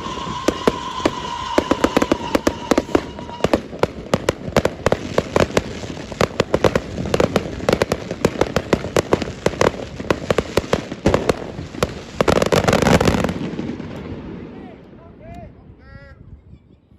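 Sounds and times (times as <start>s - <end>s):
fireworks bangs and crackles: 0.0s - 15.8s.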